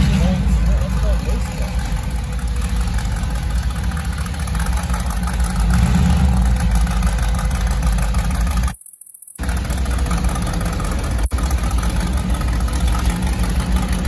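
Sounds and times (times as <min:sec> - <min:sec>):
racing car engine idling: 0:00.0 - 0:14.0.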